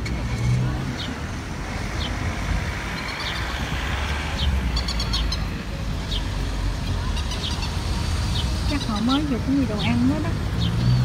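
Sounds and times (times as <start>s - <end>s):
small birds chirping: 0.9s - 11.0s.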